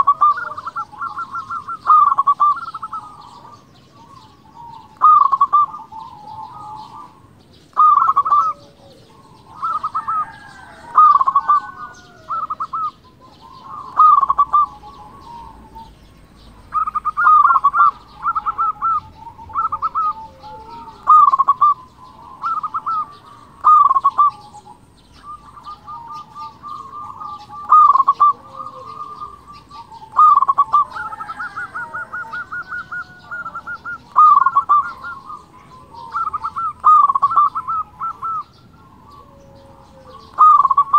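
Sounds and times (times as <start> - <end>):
dove cooing: 0.0 - 40.9
faint cooing phrases: 0.0 - 40.9
small birds chirping: 0.0 - 40.9.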